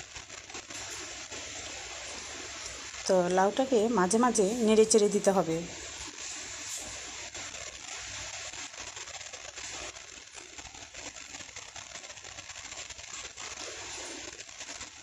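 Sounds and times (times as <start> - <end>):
food sizzling in pan: 0.0 - 15.0.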